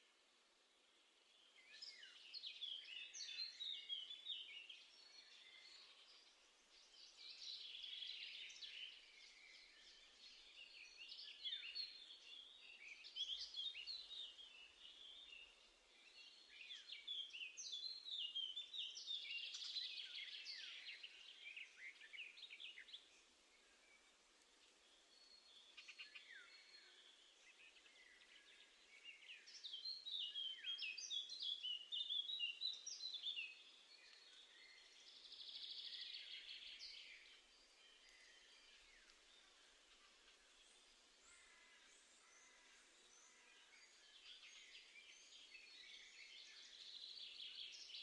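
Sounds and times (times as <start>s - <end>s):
low steady hiss: 0.0s - 48.0s
songbirds twittering: 0.7s - 48.0s.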